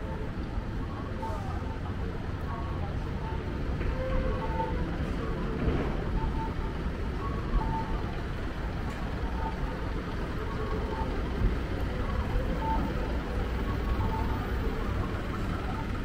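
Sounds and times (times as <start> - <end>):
city street traffic rumble: 0.0 - 16.0.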